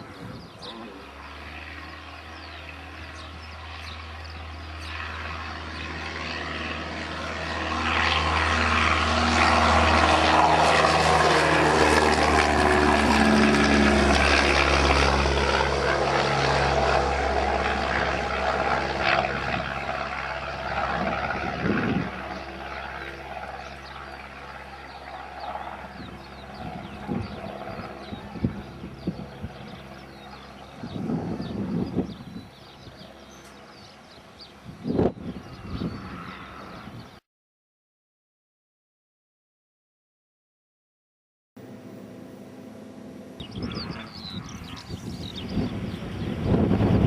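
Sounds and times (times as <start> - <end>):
wind rumble on microphone: 0.0 - 0.9, 2.4 - 24.3, 25.4 - 37.2, 43.4 - 47.0
model plane engine buzzing: 0.0 - 37.2, 41.6 - 47.0.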